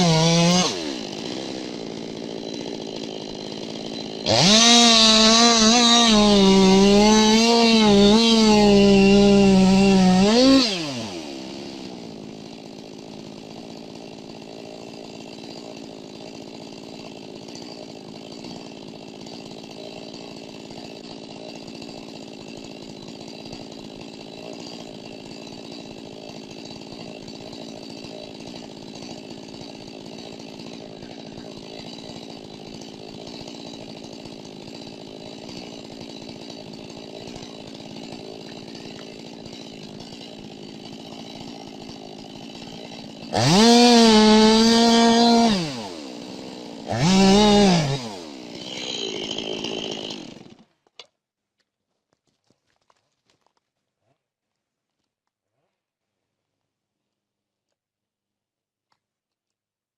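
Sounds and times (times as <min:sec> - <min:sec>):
chainsaw engine running and revving: 0:00.0 - 0:50.6.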